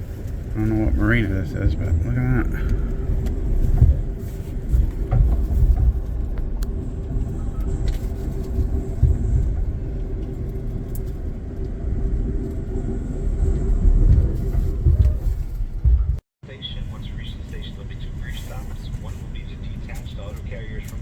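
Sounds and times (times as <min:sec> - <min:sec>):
train rumbling in motion: 0:00.0 - 0:21.0.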